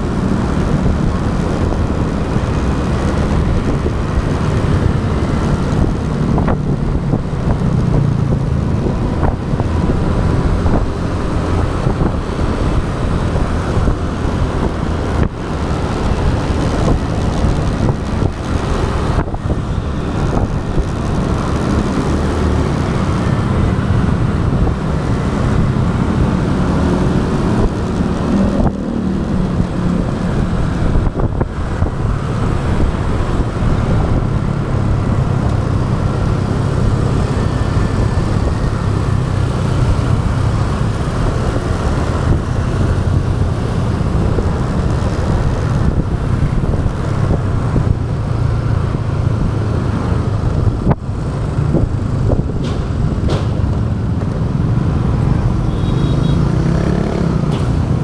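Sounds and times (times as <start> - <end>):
road and traffic noise: 0.0 - 58.0.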